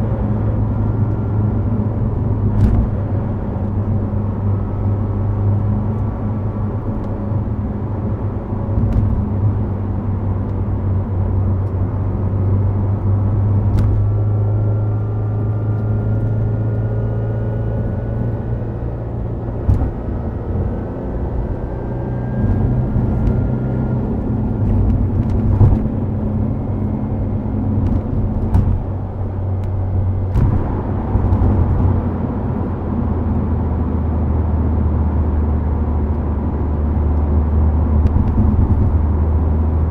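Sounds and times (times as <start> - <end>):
car engine droning at cruise: 0.0 - 39.9
tyre and road noise: 0.0 - 39.9.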